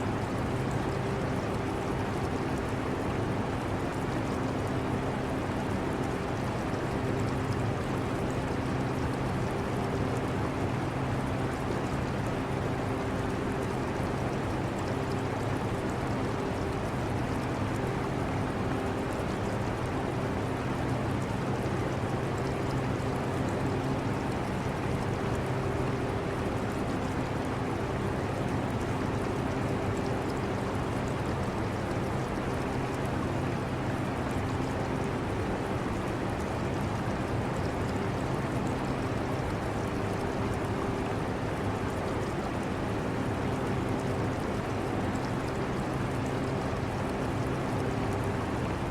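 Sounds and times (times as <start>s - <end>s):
aquarium water trickling: 0.1s - 48.8s.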